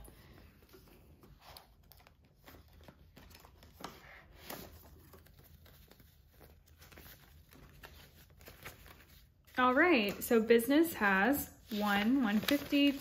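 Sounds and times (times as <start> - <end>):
paper banknotes rustling: 0.0 - 13.0.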